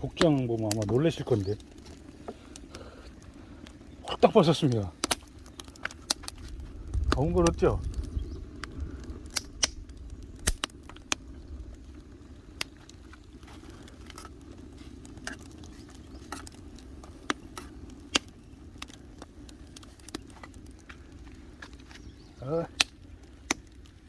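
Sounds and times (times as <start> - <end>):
low rush of fire: 0.0 - 24.0
wood fire crackling and popping: 0.0 - 24.0.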